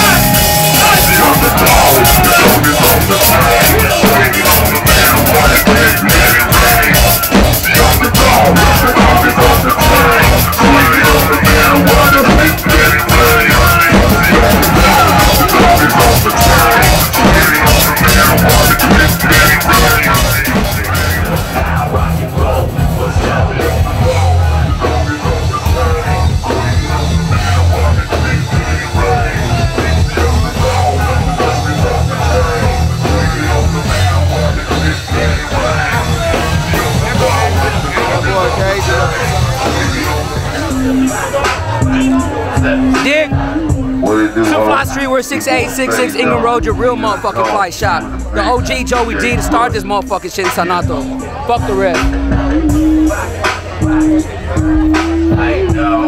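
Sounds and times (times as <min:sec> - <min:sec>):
heavy steady bass: 0:00.0 - 0:56.0
loud rock music: 0:00.0 - 0:56.0.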